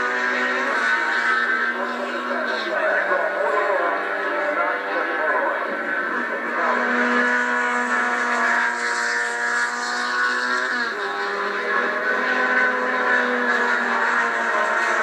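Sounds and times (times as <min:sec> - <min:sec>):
race car engine through television: 0:00.0 - 0:15.0.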